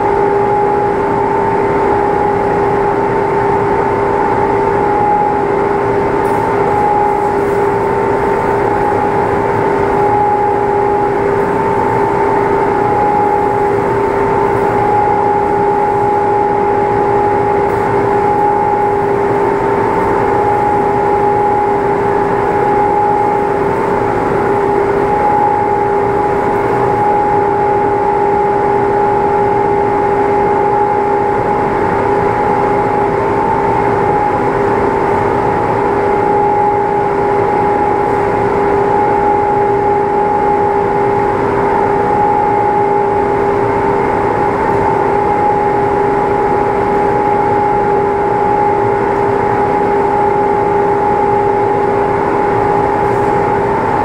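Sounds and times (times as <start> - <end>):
machine humming steadily: 0.0 - 54.0.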